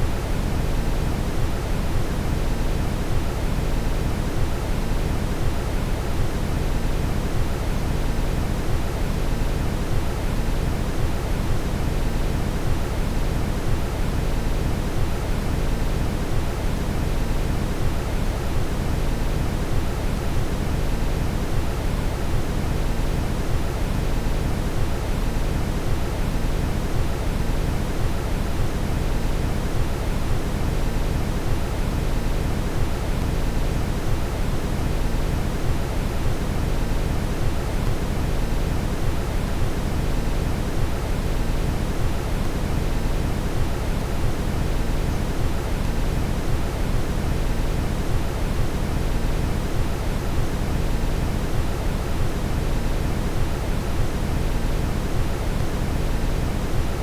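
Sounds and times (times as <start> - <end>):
steady brown noise: 0.0 - 57.0.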